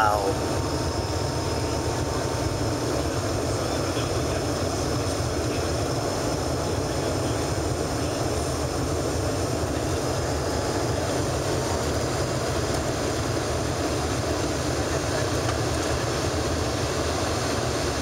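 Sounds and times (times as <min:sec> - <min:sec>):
jet cabin engine drone: 0:00.0 - 0:18.0.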